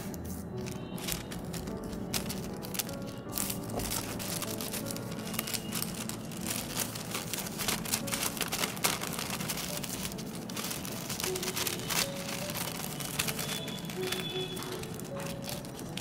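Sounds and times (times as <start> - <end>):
paper envelope rustling: 0.0 - 16.0.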